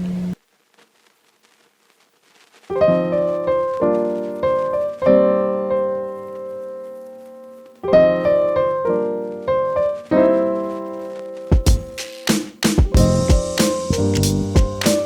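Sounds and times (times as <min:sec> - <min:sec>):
piano music: 0:02.7 - 0:15.0.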